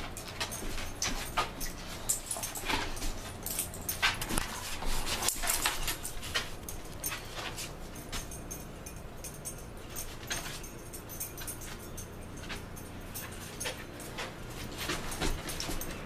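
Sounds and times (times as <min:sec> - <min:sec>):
clicks scrapes and jingles: 0:00.0 - 0:16.0.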